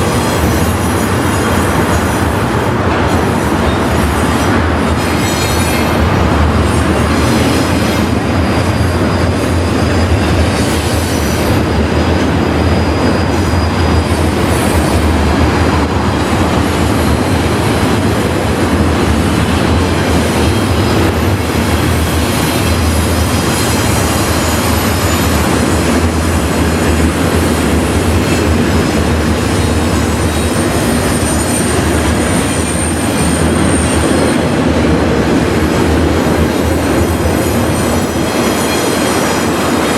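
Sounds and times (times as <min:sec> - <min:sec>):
train wheel squeal: 0:00.0 - 0:34.8, 0:35.8 - 0:39.9
freight train rumbling past: 0:00.0 - 0:39.9.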